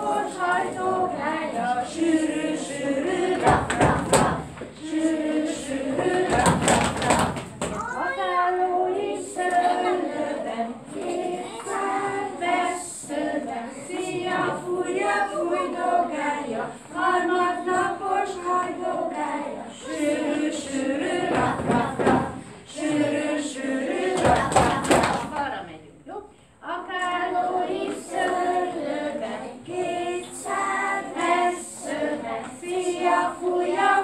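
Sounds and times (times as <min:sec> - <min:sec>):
children singing in chorus: 0:00.0 - 0:25.3, 0:26.7 - 0:34.0.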